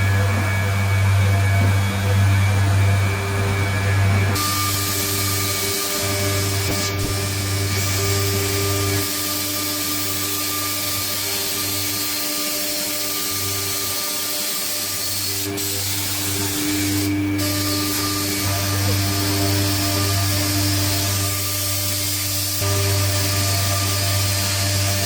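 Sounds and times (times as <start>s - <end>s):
machine humming and whining: 0.0s - 25.0s.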